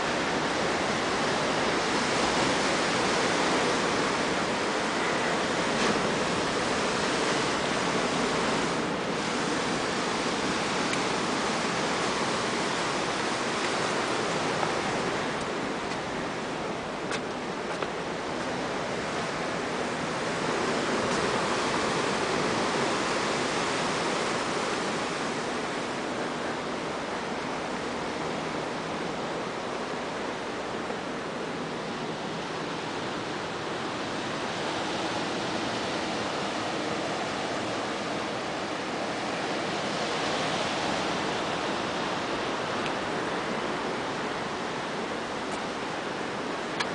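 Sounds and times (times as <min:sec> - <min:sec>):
surf breaking on rocky shore: 0:00.0 - 0:46.9.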